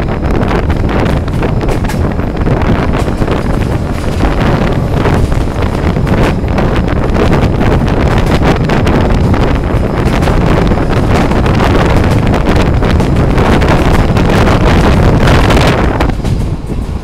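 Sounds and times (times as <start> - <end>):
train carriages rumbling: 0.0 - 17.0
train wheels knocking: 0.0 - 17.0
wind buffeting microphone: 0.0 - 17.0.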